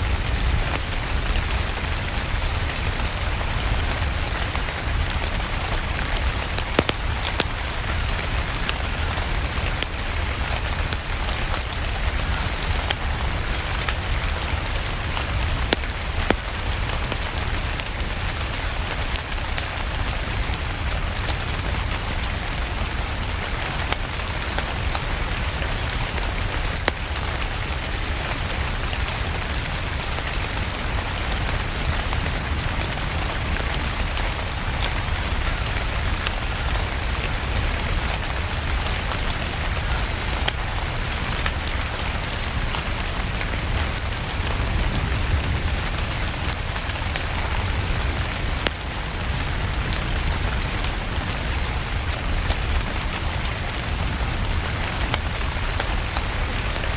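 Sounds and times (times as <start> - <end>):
steady rain: 0.0 - 56.9
wood fire crackling and popping: 0.0 - 56.9.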